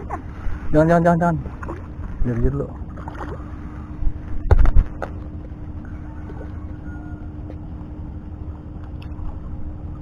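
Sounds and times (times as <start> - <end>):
faint constant hum: 0.0 - 10.0
wind rumble on microphone: 0.0 - 10.0.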